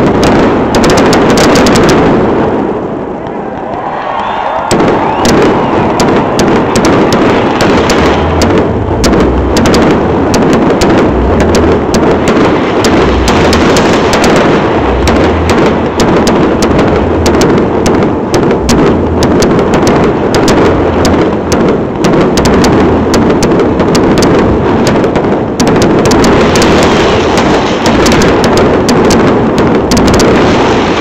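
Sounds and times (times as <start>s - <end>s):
fireworks pops and crackles: 0.0s - 31.0s
rumble of bursting shells: 0.0s - 31.0s.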